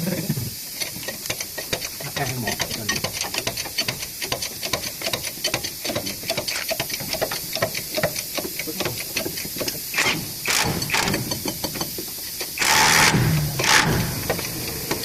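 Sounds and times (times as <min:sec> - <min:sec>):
rapid tool clicking: 0:00.8 - 0:15.0.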